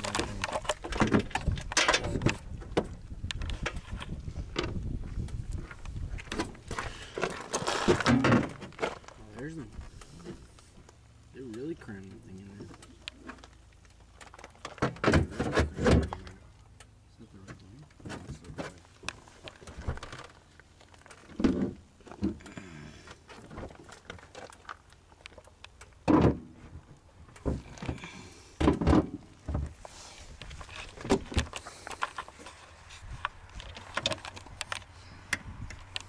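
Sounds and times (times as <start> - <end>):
thunks and clunks of handling: 0.0 - 11.0, 11.6 - 16.5, 17.4 - 36.0.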